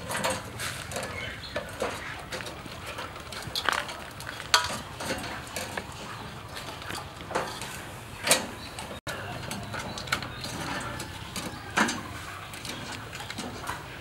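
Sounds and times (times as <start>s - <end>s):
metal tongs clinking and scraping: 0.0s - 14.0s.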